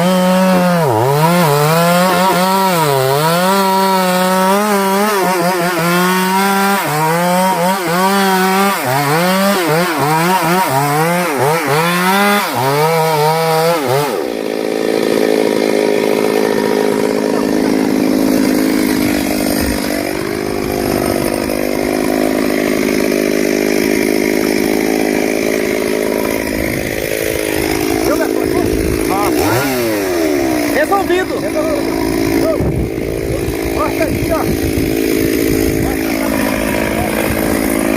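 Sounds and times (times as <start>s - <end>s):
chainsaw revving: 0.0s - 37.9s.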